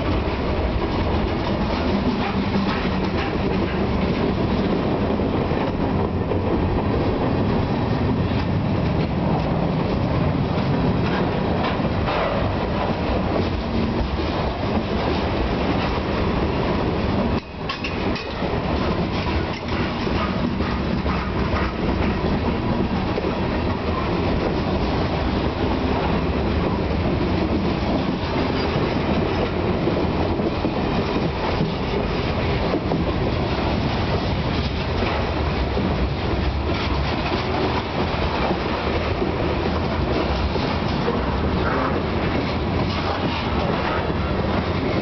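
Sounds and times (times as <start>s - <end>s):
steel wheels running on rails: 0.0s - 45.0s.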